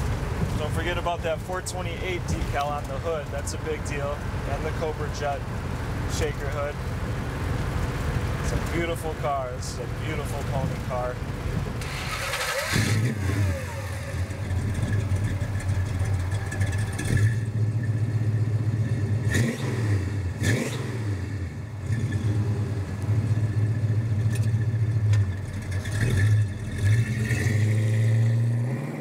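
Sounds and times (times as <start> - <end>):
car engine idling: 0.0 - 27.5.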